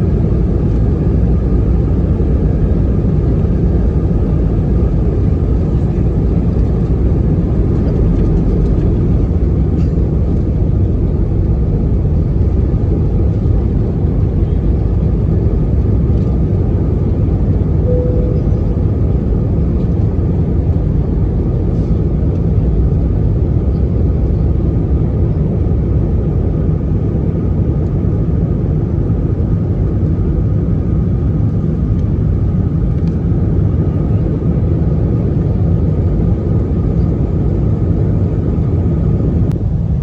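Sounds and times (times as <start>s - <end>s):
airliner engines and airflow rumble: 0.0s - 40.0s.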